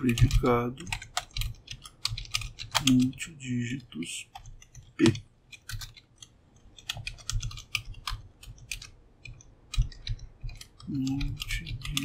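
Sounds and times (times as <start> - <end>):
computer keyboard typing: 0.0 - 12.0.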